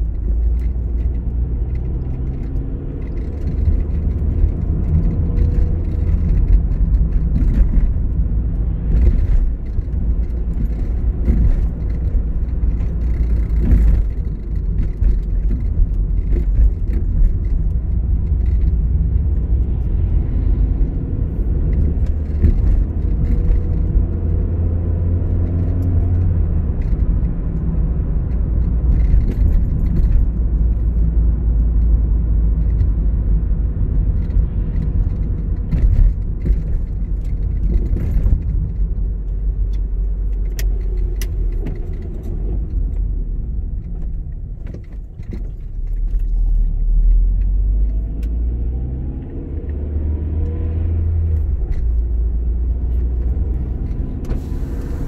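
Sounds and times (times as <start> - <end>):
car engine rumble: 0.0 - 55.0
tyres on the road: 0.0 - 55.0.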